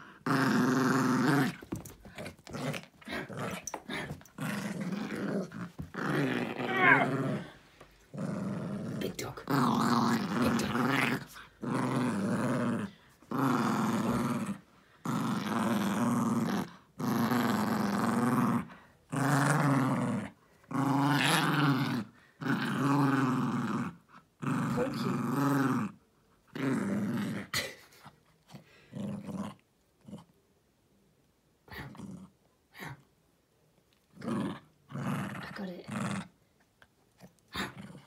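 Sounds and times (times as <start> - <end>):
small dog growling in play: 0.0 - 30.3, 31.7 - 33.1, 34.1 - 36.4, 37.1 - 38.0.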